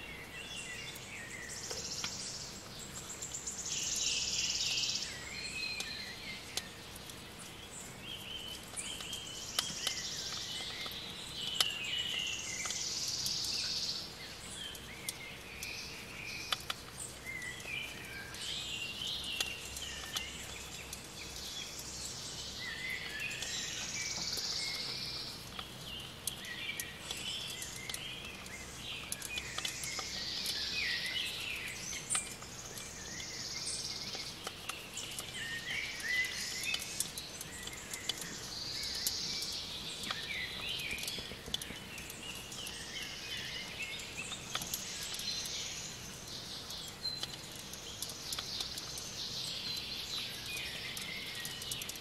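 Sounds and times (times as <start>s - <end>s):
birds chirping: 7.5s - 52.0s.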